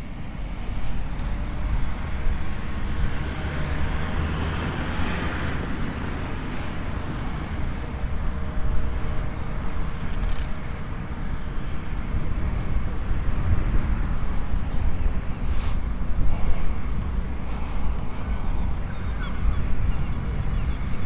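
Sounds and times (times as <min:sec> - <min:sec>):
tractor engines running: 0:00.0 - 0:21.0
wind rumble on microphone: 0:00.0 - 0:21.0.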